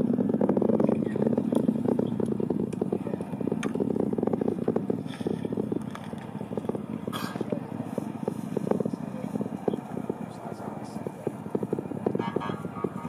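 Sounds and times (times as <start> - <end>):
distant rocket engine rumble: 0.0 - 13.0.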